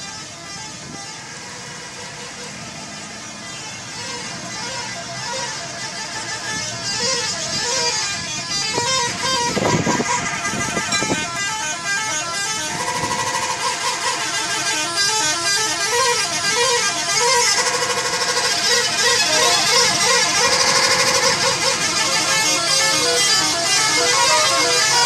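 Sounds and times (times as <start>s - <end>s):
bus horns playing tunes: 0.0s - 25.0s.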